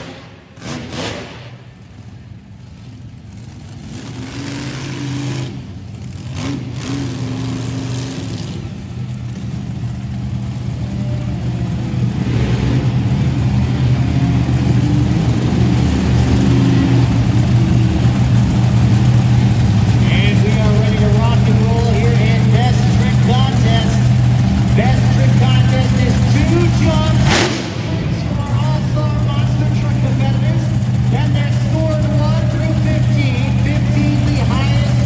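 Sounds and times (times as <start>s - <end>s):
truck engine deep drone: 0.0s - 35.0s.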